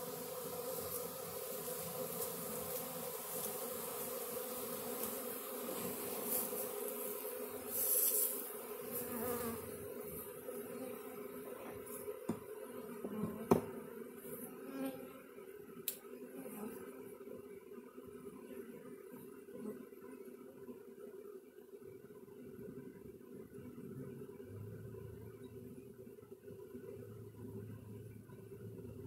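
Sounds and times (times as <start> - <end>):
bee swarm humming: 0.0 - 29.0.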